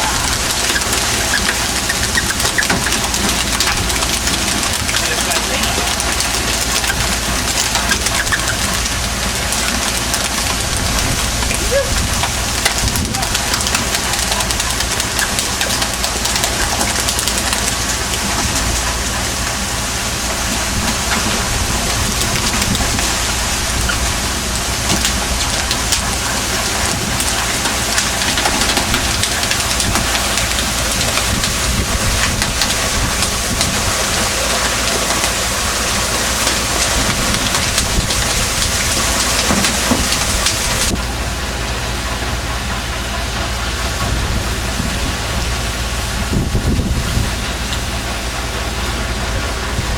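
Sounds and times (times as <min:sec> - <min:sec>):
boat engine hum: 0:00.0 - 0:49.9
water rushing hiss: 0:00.0 - 0:49.9.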